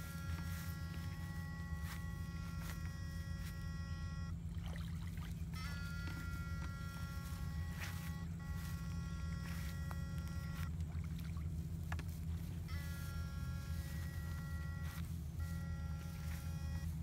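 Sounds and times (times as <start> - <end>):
high-pitched whine: 0.0 - 17.0
low electrical buzz: 0.0 - 17.0.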